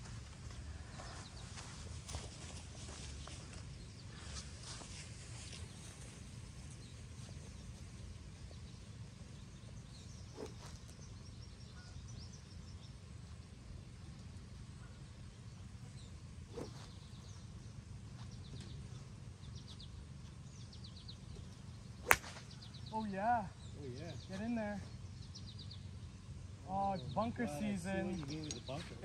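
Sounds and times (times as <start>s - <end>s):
small birds chirping: 0.4s - 29.0s.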